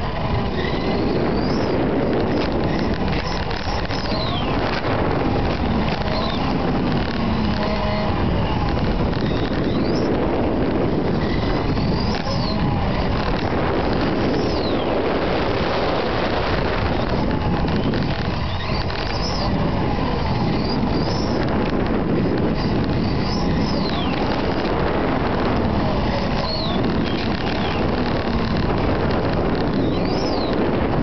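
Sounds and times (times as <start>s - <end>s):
high motor whine: 0.0s - 31.0s
wind and rolling noise: 0.0s - 31.0s.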